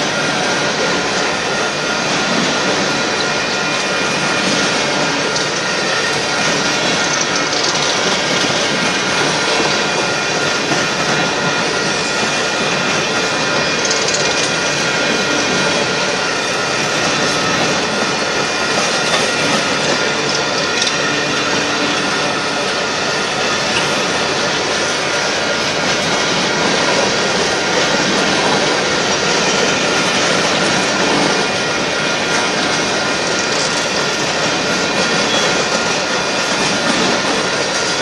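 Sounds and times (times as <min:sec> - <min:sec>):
steel wheels rolling on rails: 0:00.0 - 0:38.0.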